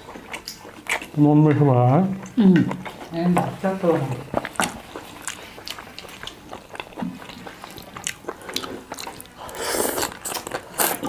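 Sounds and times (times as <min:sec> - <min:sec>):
biting and chewing food: 0:00.0 - 0:11.0.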